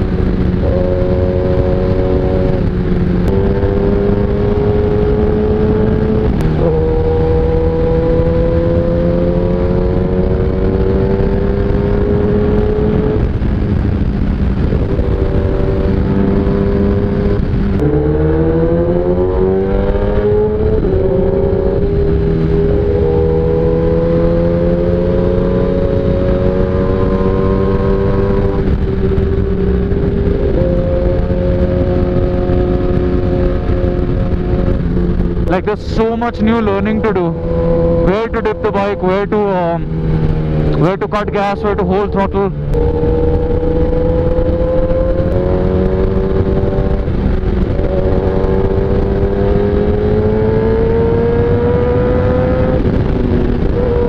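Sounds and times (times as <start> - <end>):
motorcycle engine revving: 0.0 - 54.0
wind rushing over microphone: 0.0 - 54.0.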